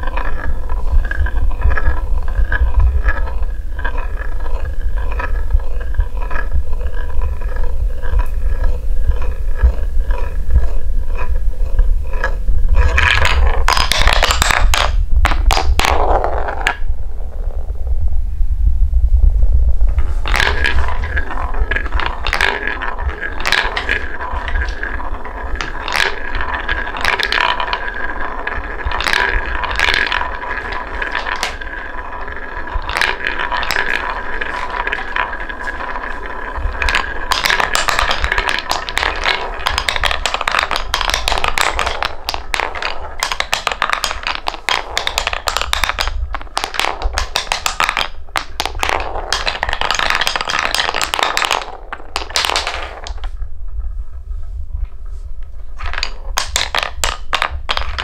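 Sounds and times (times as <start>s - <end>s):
balls clattering down wooden track: 0.0s - 17.6s, 19.9s - 53.9s, 55.6s - 58.0s
balls rolling in wooden bowl: 0.0s - 18.1s, 19.6s - 58.0s.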